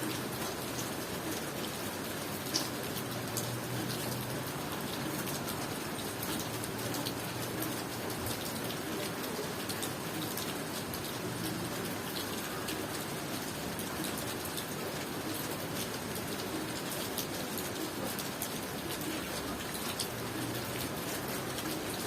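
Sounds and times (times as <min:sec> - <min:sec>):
steady rain falling: 0:00.0 - 0:22.0
raindrops ticking: 0:00.1 - 0:22.0.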